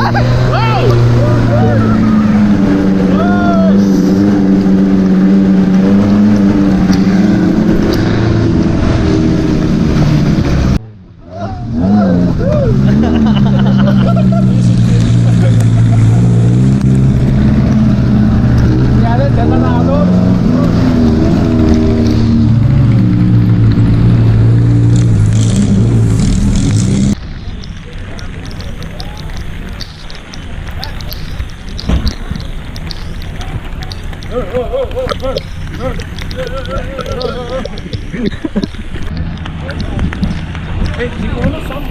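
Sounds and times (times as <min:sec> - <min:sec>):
vehicle engine running loudly: 0:00.0 - 0:41.9.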